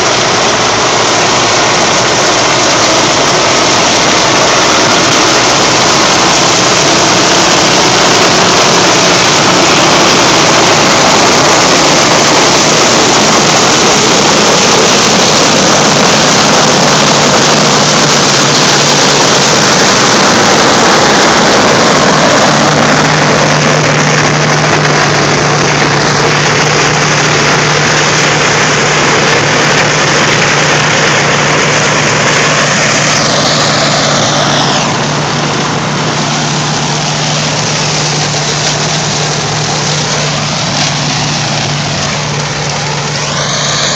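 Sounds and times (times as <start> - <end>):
corn picker mechanical din: 0.0 - 43.9
tractor engine running under load: 0.0 - 43.9.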